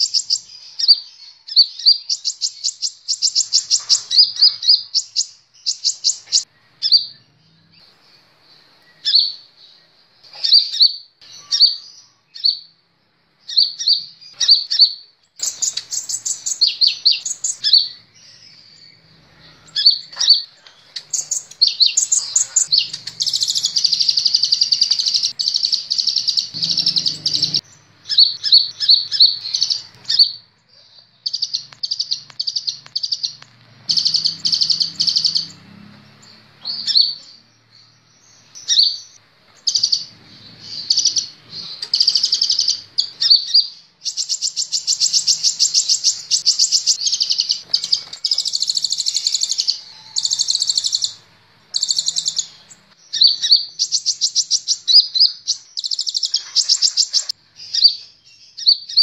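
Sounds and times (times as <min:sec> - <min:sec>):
sunbird chirps and trills: 0:00.0 - 0:59.0.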